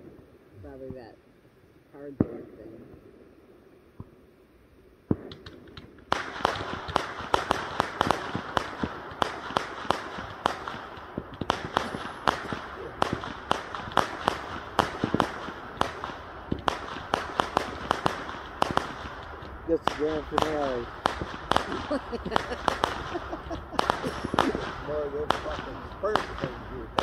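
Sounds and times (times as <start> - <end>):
crackling hiss: 0.0 - 27.0
fireworks cracking and popping: 5.0 - 27.0.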